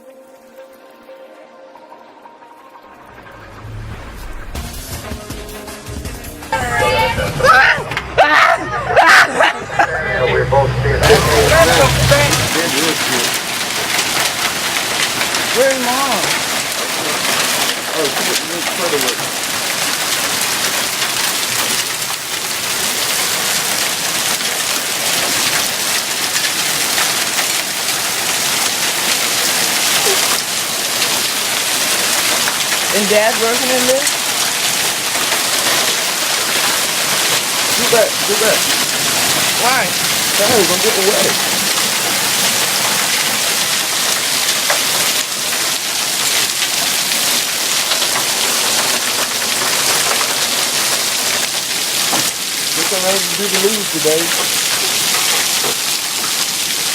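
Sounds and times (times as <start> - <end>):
heavy rain: 0.0 - 56.9
hailstones striking hard surfaces: 11.0 - 56.9.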